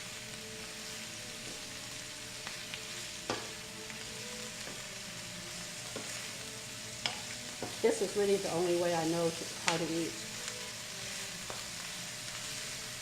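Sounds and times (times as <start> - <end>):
cabbage sizzling in a pan: 0.0 - 13.0.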